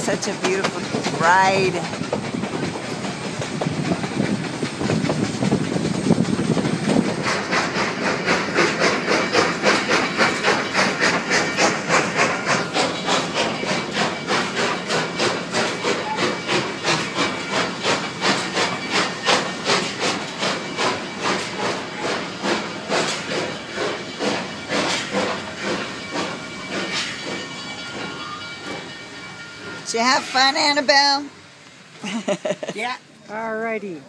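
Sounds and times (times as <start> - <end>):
steam locomotive chuffing: 0.0 - 33.2.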